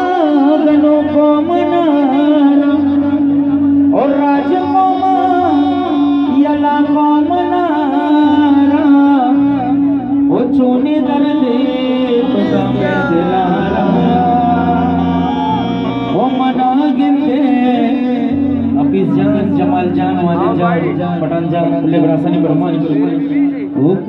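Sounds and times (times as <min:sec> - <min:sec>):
instrumental accompaniment with drone: 0:00.0 - 0:24.0
man singing into a microphone: 0:00.0 - 0:24.0.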